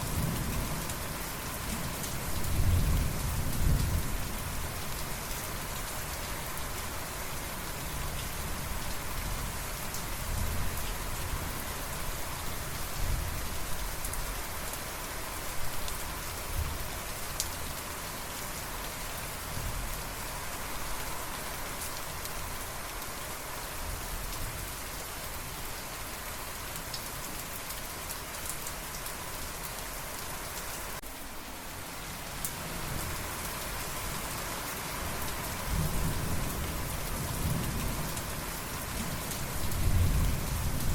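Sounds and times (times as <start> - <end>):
raindrops striking close by: 0.0 - 40.9
steady rain falling: 0.0 - 40.9.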